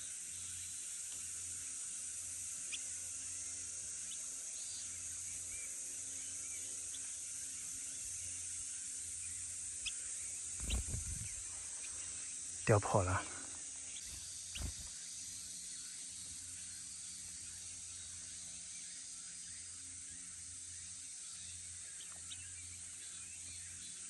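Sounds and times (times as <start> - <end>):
insect chorus: 0.0 - 24.0.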